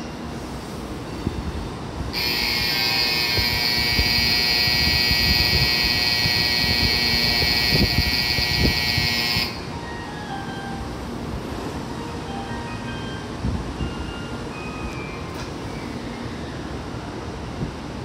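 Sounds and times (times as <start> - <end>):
platform departure bell ringing: 0.0 - 17.4.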